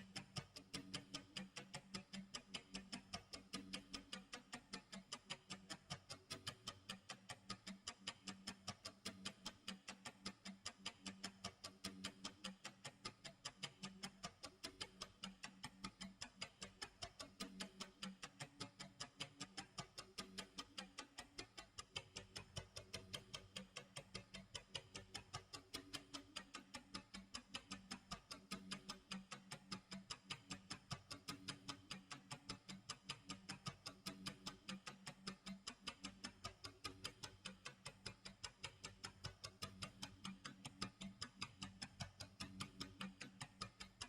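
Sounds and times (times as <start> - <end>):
clock ticking: 0.0 - 44.0.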